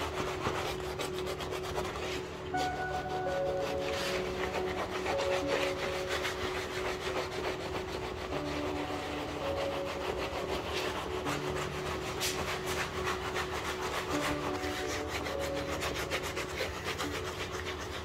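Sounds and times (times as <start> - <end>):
glove rubbing leather: 0.0 - 18.0.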